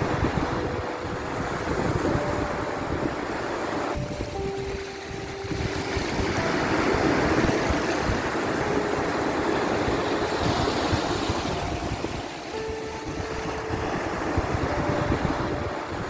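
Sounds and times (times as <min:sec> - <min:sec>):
sea waves washing in: 0:00.0 - 0:16.0
soft music held notes: 0:00.0 - 0:16.0.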